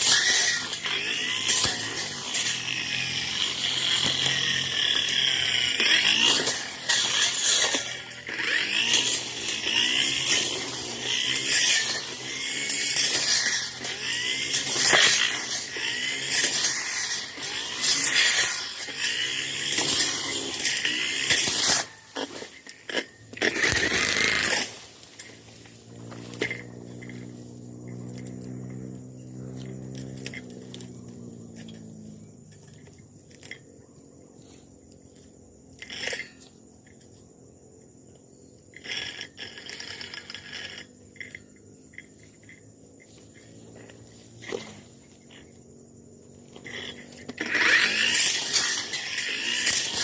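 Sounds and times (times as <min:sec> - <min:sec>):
brush cutter engine: 0:00.0 - 0:50.0.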